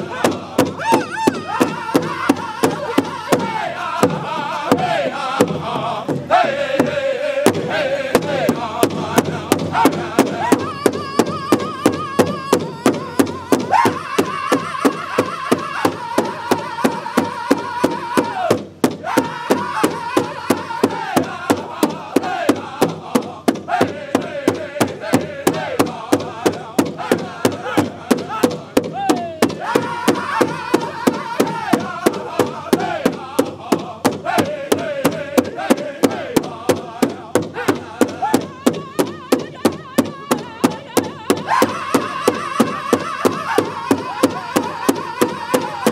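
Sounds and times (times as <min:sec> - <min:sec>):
group singing together: 0:00.0 - 0:45.9
large hide drum beating: 0:00.0 - 0:45.9.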